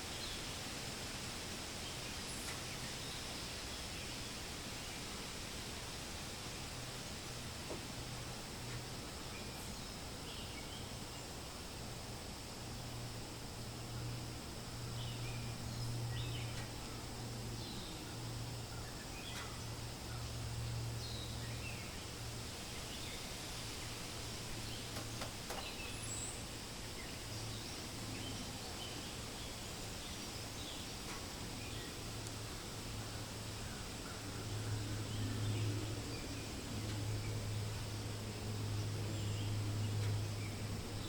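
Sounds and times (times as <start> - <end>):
low rumble and soft hiss: 0.0 - 41.0.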